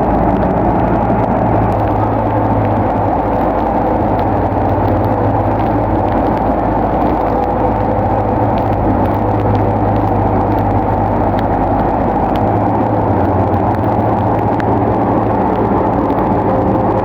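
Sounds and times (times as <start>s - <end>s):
diesel engine running: 0.0s - 17.0s
faint clicks: 0.0s - 17.0s.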